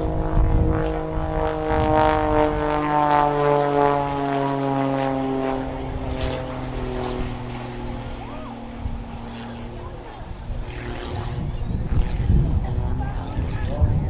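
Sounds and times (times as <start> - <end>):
propeller plane flying past: 0.0 - 14.0.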